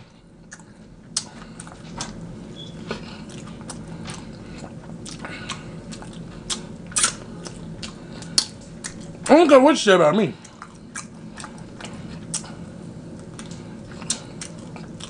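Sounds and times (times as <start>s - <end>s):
person chewing with wet mouth smacks: 0.4s - 9.3s, 10.4s - 15.0s.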